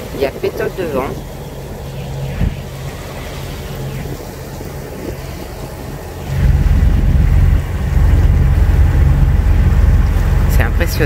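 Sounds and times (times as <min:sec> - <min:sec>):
diesel engine humming: 0:00.0 - 0:11.0
wind rumble on microphone: 0:00.0 - 0:11.0.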